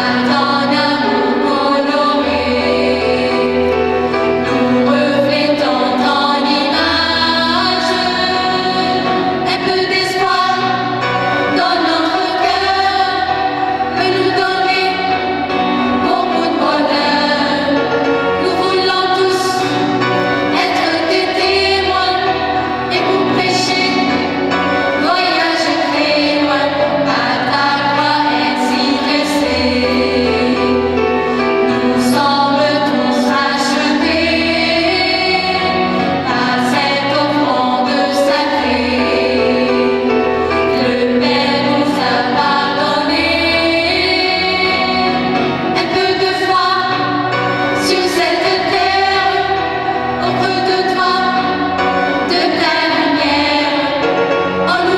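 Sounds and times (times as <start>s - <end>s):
instrumental accompaniment: 0.0s - 54.9s
mixed choir singing: 0.0s - 54.9s.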